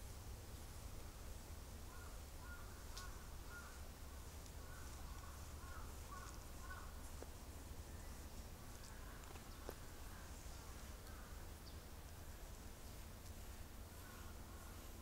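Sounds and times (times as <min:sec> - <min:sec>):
steady low rumble: 0:00.0 - 0:15.0
faint bird calls: 0:01.8 - 0:15.0.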